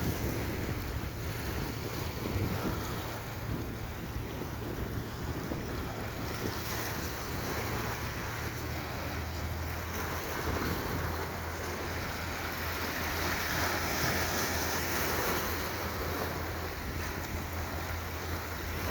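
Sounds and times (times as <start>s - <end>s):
sea washing against harbour: 0.0s - 18.9s
wind on microphone: 0.0s - 18.9s.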